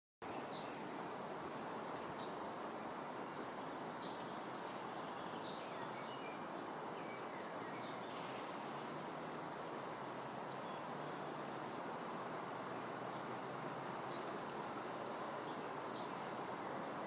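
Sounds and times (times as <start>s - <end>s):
outdoor background noise: 0.2s - 17.0s.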